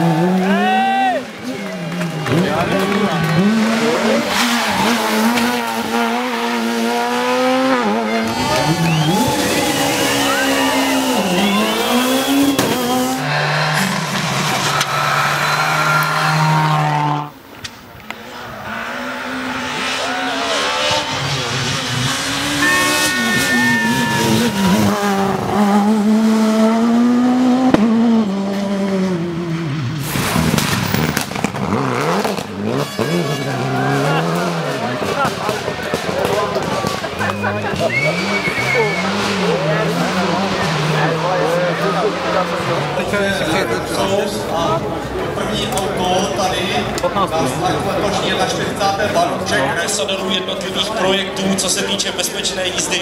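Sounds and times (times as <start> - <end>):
rally car engines revving: 0.0 - 53.0.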